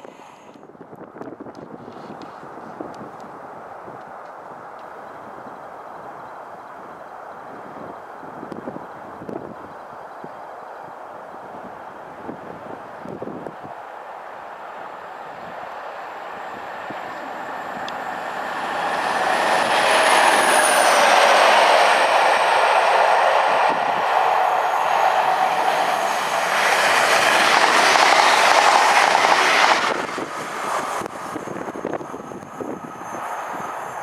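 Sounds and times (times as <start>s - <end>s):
train passing at speed: 1.2s - 34.0s.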